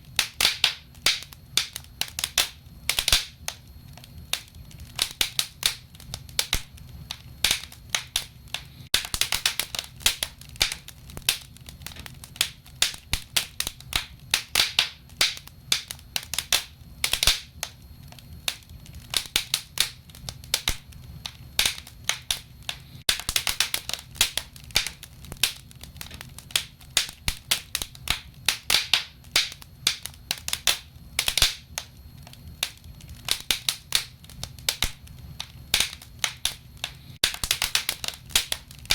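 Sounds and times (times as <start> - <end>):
low steady fire rumble: 0.0 - 38.9
wood fire crackling: 0.0 - 38.9.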